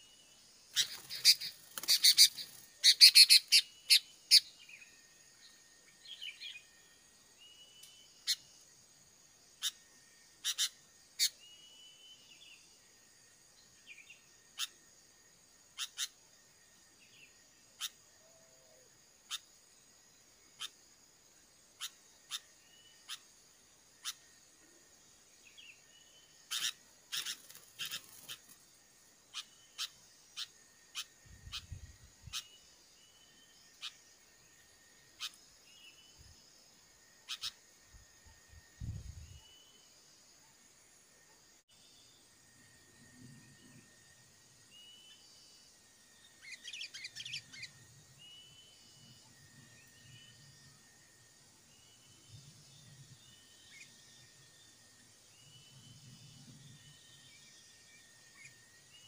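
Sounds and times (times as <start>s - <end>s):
small birds chipping: 0.0s - 8.7s, 15.6s - 40.7s, 43.2s - 59.0s
high insect drone: 0.0s - 59.0s.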